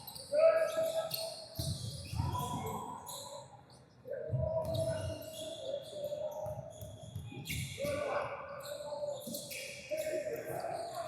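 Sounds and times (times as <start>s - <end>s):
shoe squeaks: 0.0s - 3.6s, 4.7s - 11.0s
voices echoing in gym: 0.0s - 11.0s.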